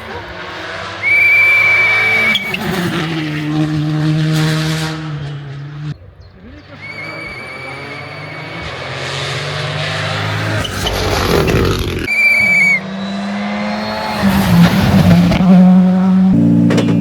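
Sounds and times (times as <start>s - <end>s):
rally car engines running: 0.0s - 17.0s.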